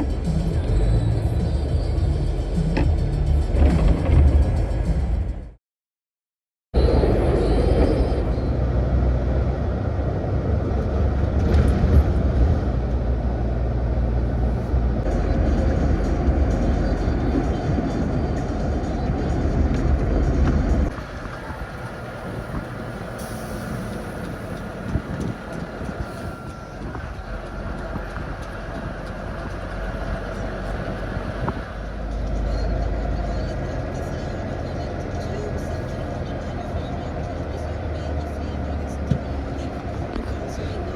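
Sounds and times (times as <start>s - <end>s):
heavy truck engine drone: 0.0s - 5.6s, 6.8s - 40.9s
road and tyre rumble: 0.0s - 5.6s, 6.8s - 40.9s.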